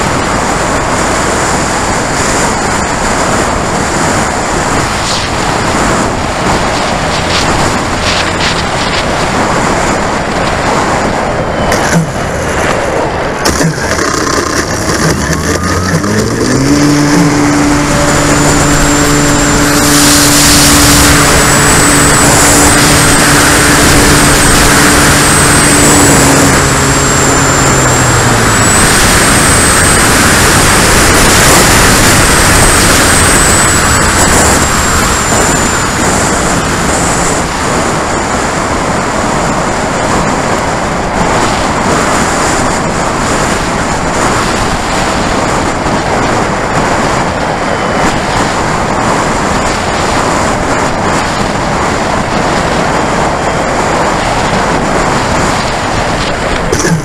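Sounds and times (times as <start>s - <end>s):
airflow rush and vibration noise: 0.0s - 57.0s
model plane engine drone: 0.0s - 57.0s
thin high whine: 0.0s - 57.0s.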